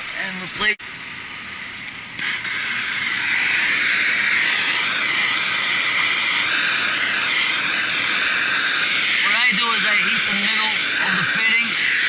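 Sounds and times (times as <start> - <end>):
torch flame hissing: 1.2 - 12.0.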